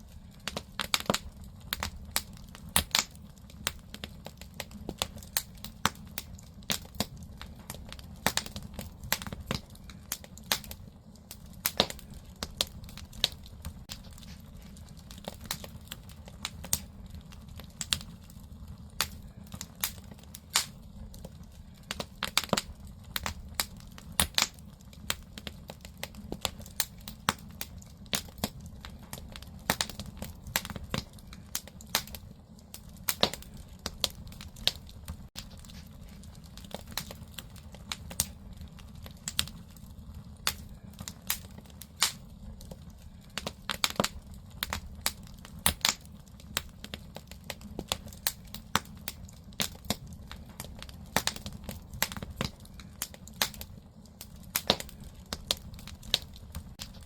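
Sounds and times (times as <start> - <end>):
firewood crackling: 0.0 - 57.0.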